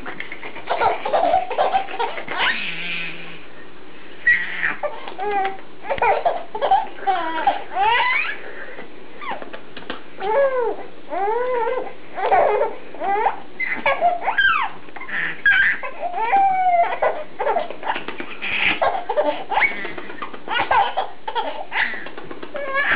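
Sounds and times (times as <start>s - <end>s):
baby squealing and laughing: 0.0s - 3.3s, 4.2s - 8.5s, 10.2s - 22.9s.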